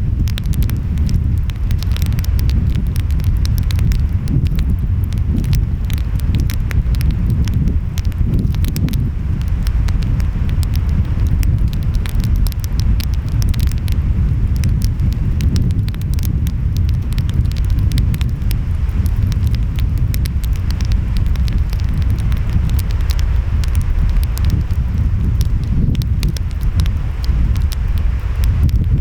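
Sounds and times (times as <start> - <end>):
wind: 0.0 - 29.0
wood fire crackling: 0.0 - 29.0.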